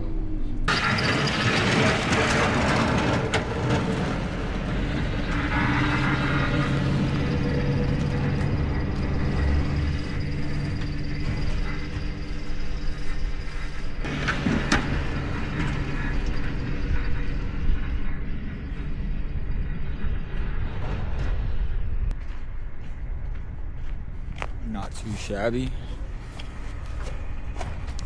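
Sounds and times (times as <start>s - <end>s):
engine running: 0.4s - 28.0s.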